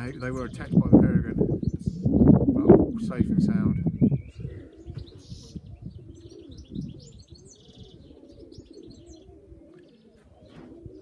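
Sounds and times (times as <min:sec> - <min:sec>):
pigeons cooing: 0:00.0 - 0:11.0
small birds chirping: 0:00.0 - 0:11.0.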